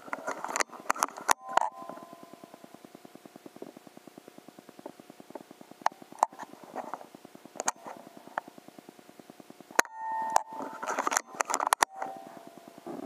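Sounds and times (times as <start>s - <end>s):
scattered clicks: 0.0s - 13.0s.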